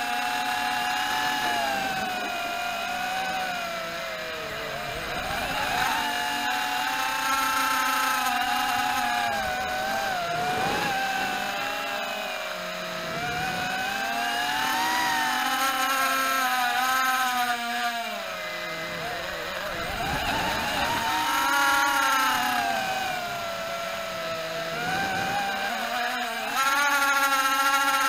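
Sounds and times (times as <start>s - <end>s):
quadcopter propellers whining: 0.0s - 28.0s.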